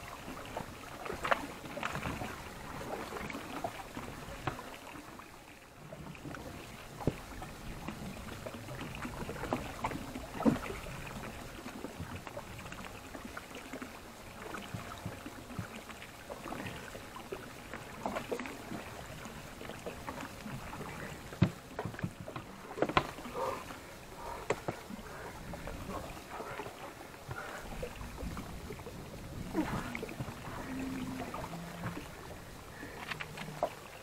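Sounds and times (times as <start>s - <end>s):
water splashing against boat: 0.0s - 34.0s.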